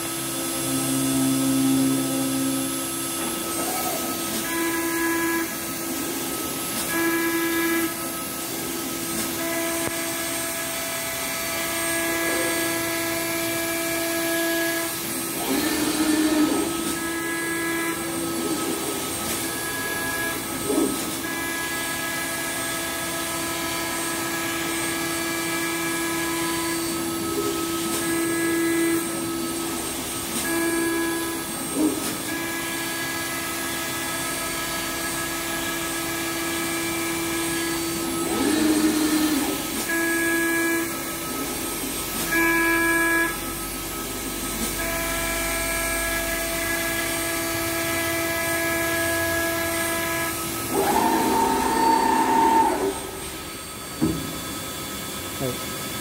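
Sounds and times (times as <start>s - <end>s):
cnc router whine: 0.0s - 56.0s.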